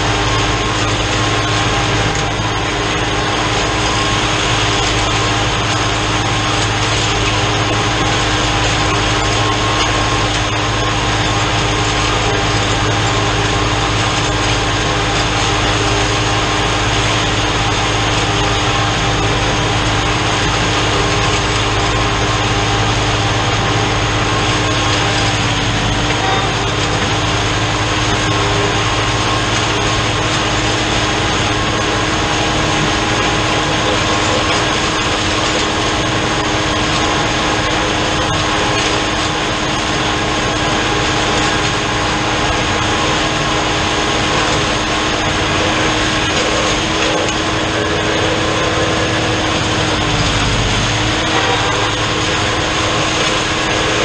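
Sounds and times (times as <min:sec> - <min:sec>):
drum mower whine: 0:00.0 - 0:54.0
tractor diesel engine drone: 0:00.0 - 0:54.0.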